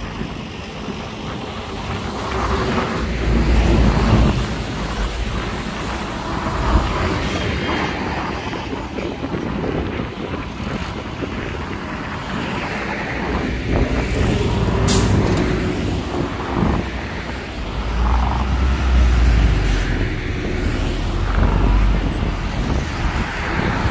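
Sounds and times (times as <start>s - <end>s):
diesel truck engine rumble: 0.0s - 23.9s.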